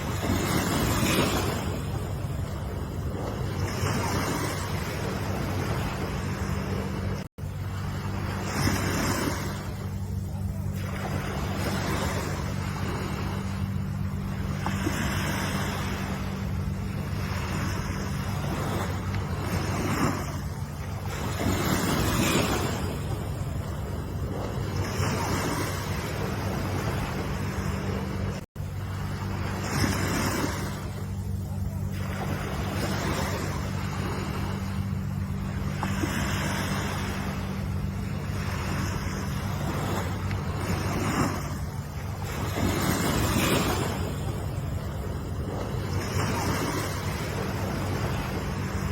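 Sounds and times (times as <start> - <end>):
ocean waves breaking: 0.0 - 48.9
steady low hum: 0.0 - 48.9.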